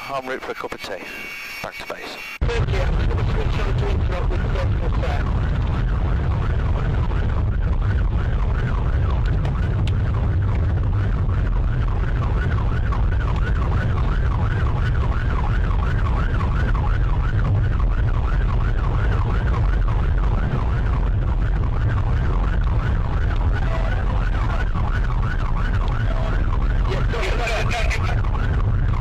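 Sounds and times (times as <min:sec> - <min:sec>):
engine and road rumble: 0:02.4 - 0:29.0
police siren wailing: 0:04.1 - 0:29.0.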